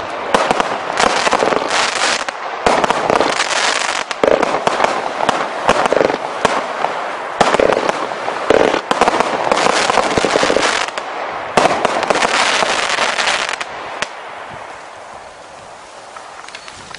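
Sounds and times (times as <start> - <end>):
firework launches and crackling bursts: 0.0 - 16.9.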